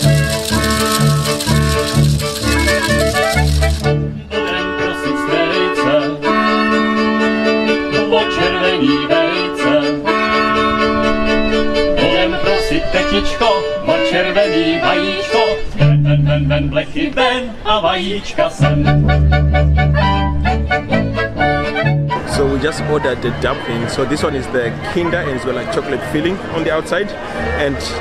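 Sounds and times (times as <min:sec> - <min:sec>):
fiddle playing lively tune: 0:00.0 - 0:15.7, 0:18.6 - 0:27.8.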